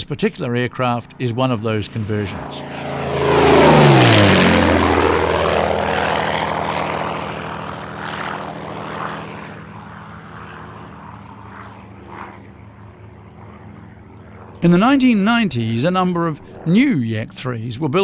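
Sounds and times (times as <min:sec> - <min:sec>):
propeller engine droning: 0:00.0 - 0:18.0.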